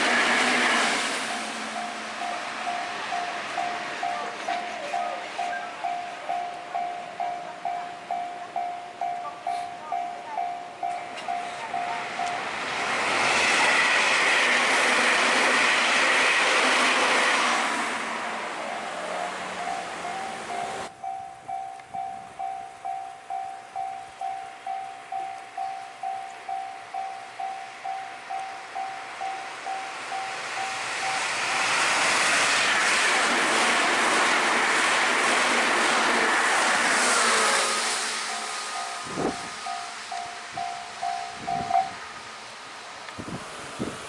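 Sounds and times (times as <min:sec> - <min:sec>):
train passing at speed: 0:00.0 - 0:44.0.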